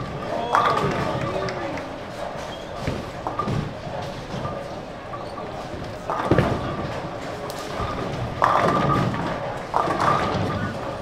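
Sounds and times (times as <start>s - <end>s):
bowling balls and pins: 0.0s - 11.0s.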